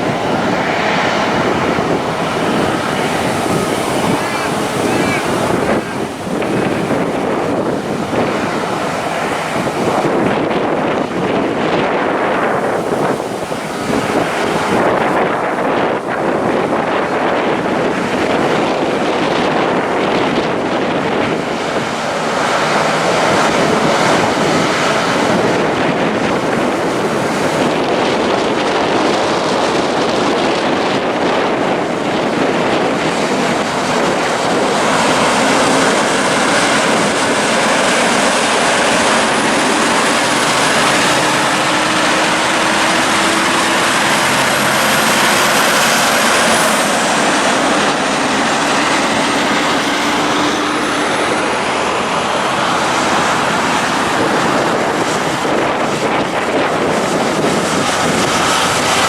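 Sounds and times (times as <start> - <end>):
heavy trucks passing: 0.0 - 59.0
wind buffeting microphone: 0.0 - 59.0.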